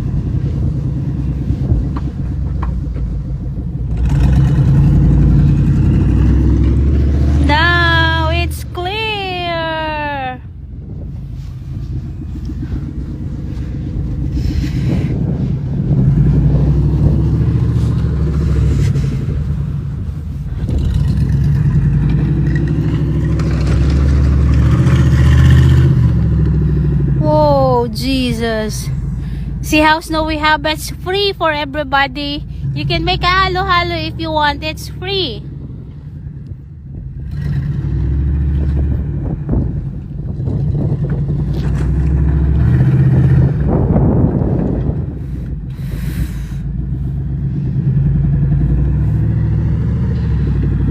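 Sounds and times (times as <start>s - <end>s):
engine humming: 0.0s - 50.9s.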